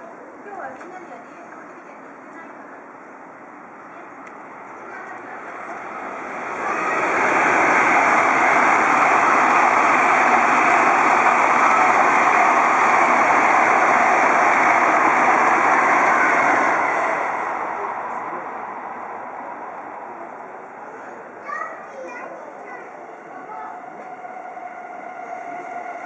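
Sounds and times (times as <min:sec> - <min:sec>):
train passing at speed: 0:00.0 - 0:26.0.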